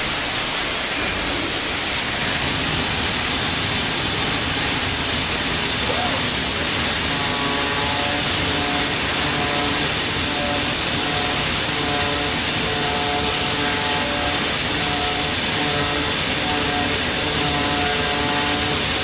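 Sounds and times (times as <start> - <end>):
sheet cutter rushing noise: 0.0 - 19.0
steady machine tones: 0.0 - 19.0.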